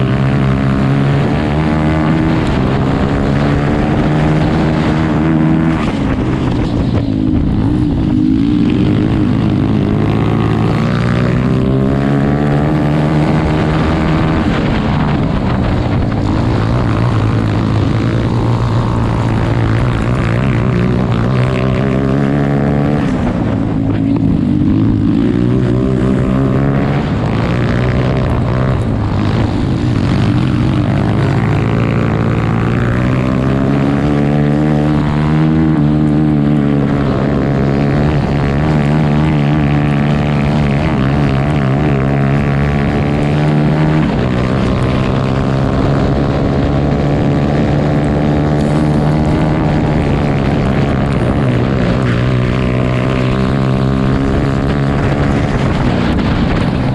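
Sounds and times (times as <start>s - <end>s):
kart engine running hard: 0.0s - 56.9s.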